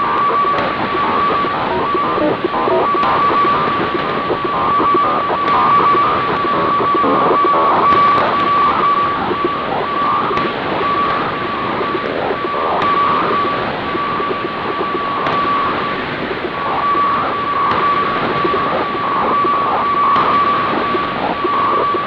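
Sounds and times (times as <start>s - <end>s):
radio tone breaking into dashes: 0.0s - 22.0s
static hiss with crackle: 0.0s - 22.0s.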